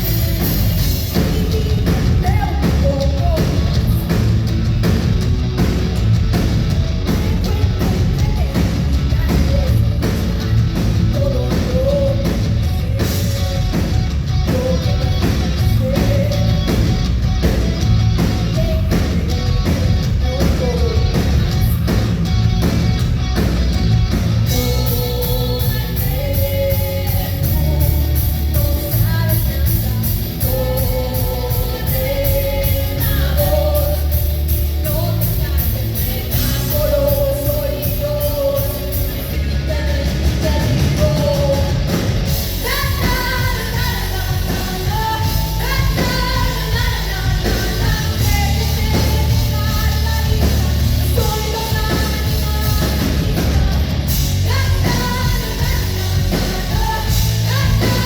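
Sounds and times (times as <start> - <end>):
woman singing: 0.0 - 4.3, 6.9 - 22.1, 24.4 - 58.0
bass guitar: 0.0 - 58.0
drums: 0.0 - 58.0
electric guitar: 0.0 - 58.0.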